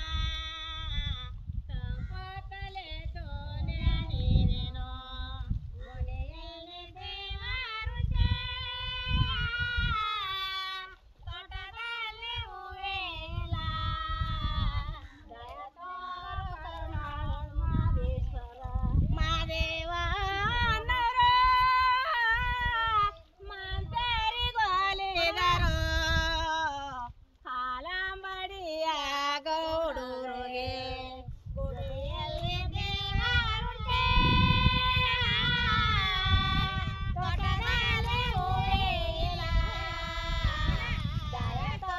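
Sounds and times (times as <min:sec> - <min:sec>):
woman singing unaccompanied: 0:00.0 - 0:41.9.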